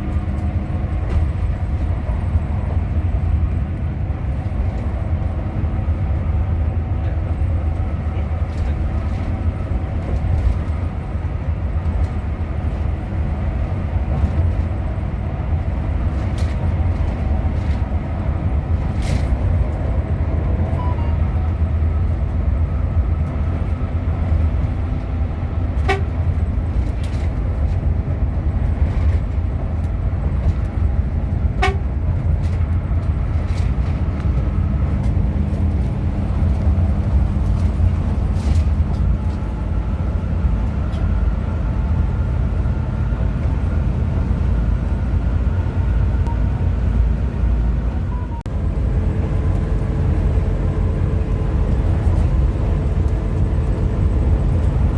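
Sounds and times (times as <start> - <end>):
coach engine and road rumble: 0.0 - 54.9.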